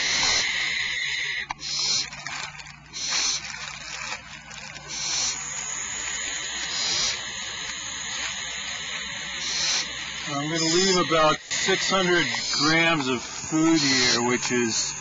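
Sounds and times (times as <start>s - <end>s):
owl nestlings hissing: 0.0s - 15.0s.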